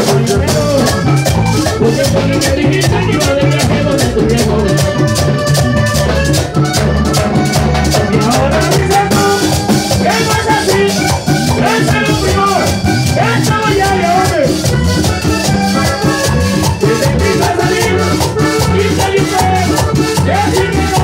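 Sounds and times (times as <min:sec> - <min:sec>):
button accordion melody: 0:00.0 - 0:21.0
drum beat: 0:00.0 - 0:21.0
scraped percussion rhythm: 0:00.0 - 0:21.0.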